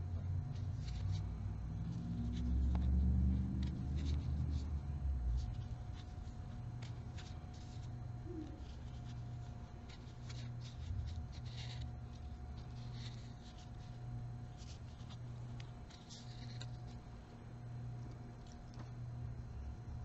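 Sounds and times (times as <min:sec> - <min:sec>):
low steady hum: 0:00.0 - 0:20.0
crochet hook scratching yarn: 0:00.5 - 0:17.1.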